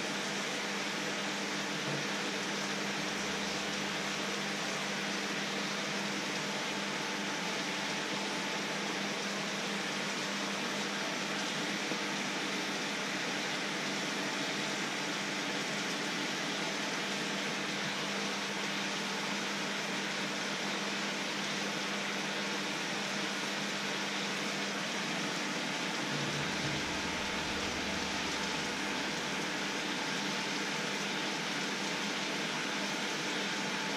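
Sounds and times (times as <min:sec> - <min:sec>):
water boiling in a wok: 0:00.0 - 0:33.9.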